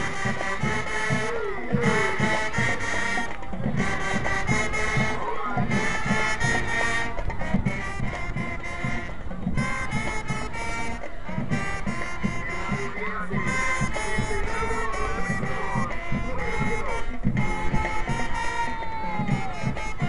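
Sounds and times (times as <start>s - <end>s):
marching drum beat: 0.0s - 20.0s
wind instrument chords: 0.0s - 20.0s.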